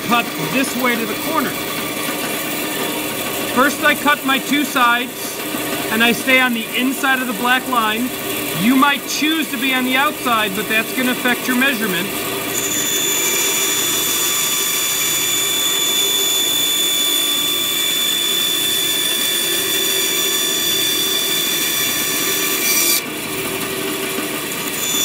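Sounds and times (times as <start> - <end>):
bandsaw cutting plywood: 0.0 - 25.0.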